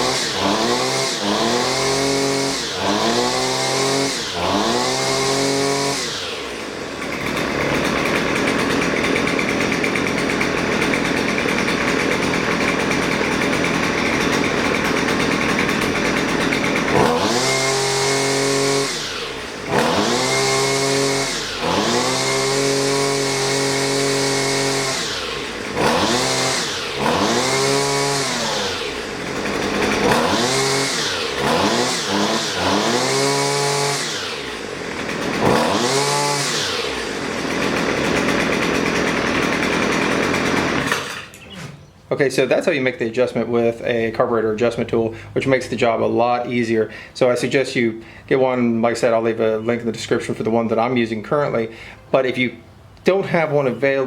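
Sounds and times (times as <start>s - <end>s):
string trimmer engine revving: 0.0s - 54.0s.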